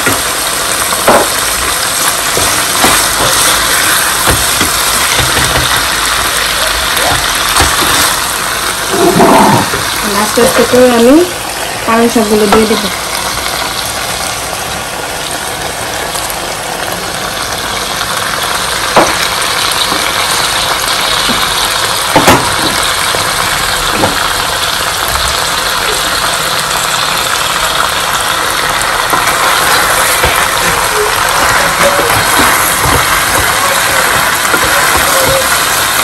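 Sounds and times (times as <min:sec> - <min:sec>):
curry sizzling in a frying pan: 0:00.0 - 0:36.0.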